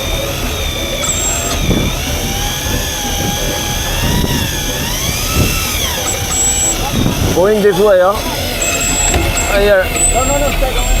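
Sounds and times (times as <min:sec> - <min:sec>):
electric fishing reel whining: 0:00.0 - 0:11.0.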